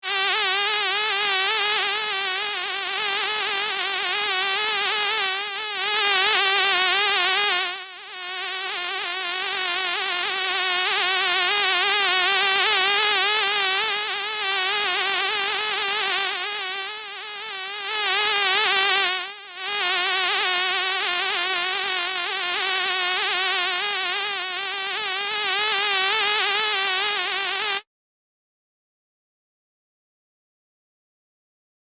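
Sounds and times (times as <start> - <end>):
fly buzzing: 0.0 - 27.9.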